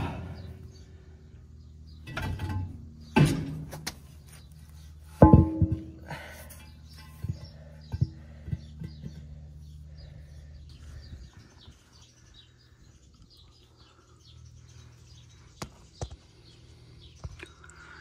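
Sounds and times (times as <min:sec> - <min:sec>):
low steady hum: 0:00.0 - 0:18.0
small birds chirping: 0:00.0 - 0:18.0.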